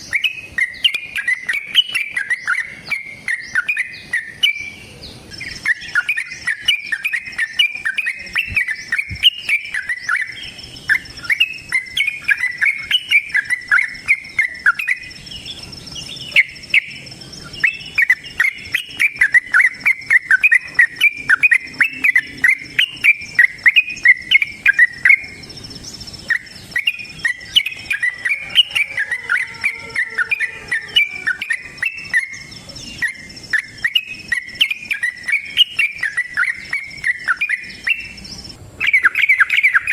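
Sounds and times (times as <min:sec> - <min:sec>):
bird singing chirping runs: 0:00.0 - 0:39.9.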